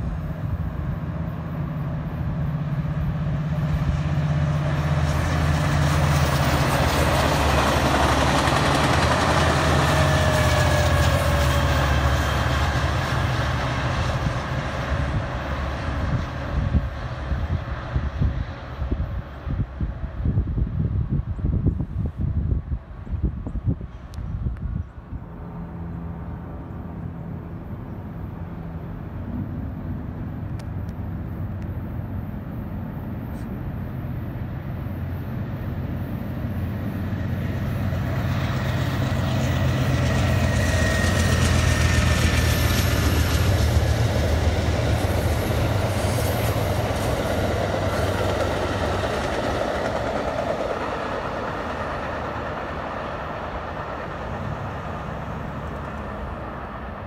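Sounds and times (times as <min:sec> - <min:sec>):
wheels hissing on rails: 0:00.0 - 0:21.1, 0:25.3 - 0:57.0
locomotive drone: 0:00.0 - 0:57.0
train rumble: 0:00.0 - 0:57.0.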